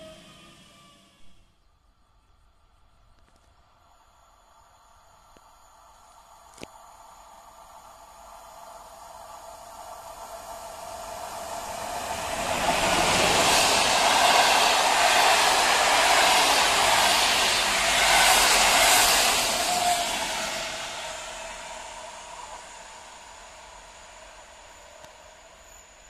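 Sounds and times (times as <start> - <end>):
train wheels rushing on rails: 0.0 - 1.5, 4.5 - 26.0.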